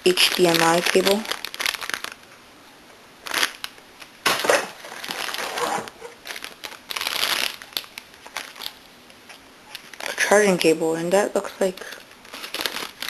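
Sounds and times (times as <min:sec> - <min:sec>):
plastic packaging crinkling: 0:00.0 - 0:02.4, 0:03.2 - 0:13.0.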